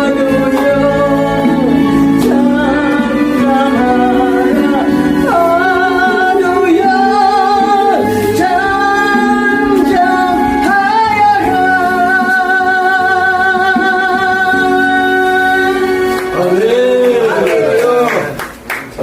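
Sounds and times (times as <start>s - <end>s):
person singing gospel song: 0.0s - 18.4s
instrumental accompaniment: 0.0s - 18.7s.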